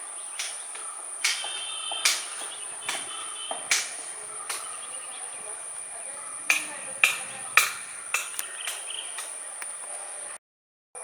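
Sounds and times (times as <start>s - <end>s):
crickets droning: 0.0s - 10.4s.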